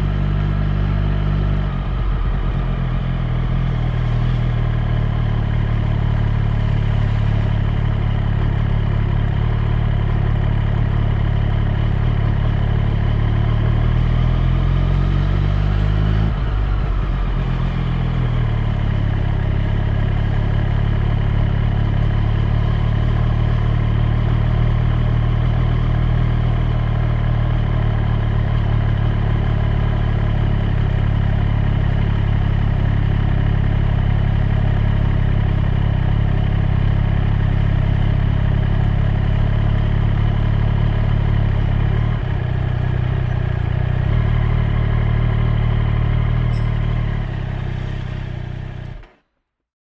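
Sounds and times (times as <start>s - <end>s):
motorcycle engine idling: 0.0s - 14.6s, 15.6s - 49.2s.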